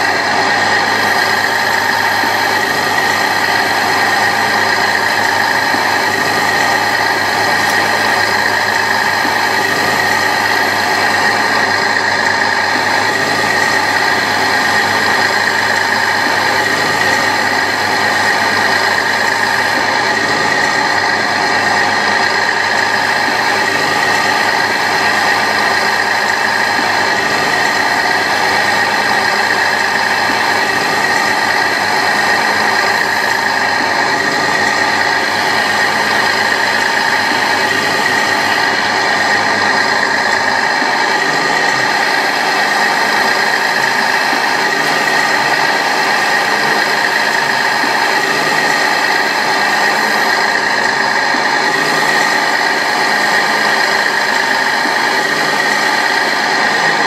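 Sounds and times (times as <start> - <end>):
model excavator mechanical whine: 0.0 - 57.0.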